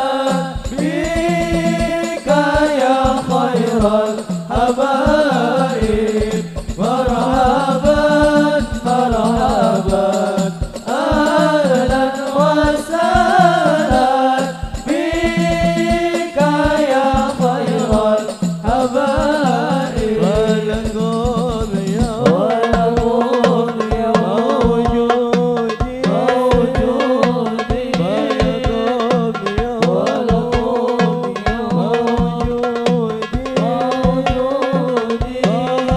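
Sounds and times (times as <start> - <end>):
person singing devotional song: 0.0 - 35.9
frame drums beating: 0.1 - 35.9.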